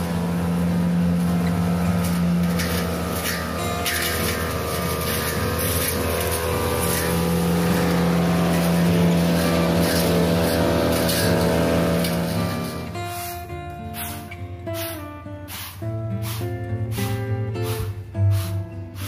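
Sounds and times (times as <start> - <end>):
brush cutter engine running: 0.0 - 19.0
blade swishing through foliage: 0.1 - 19.0.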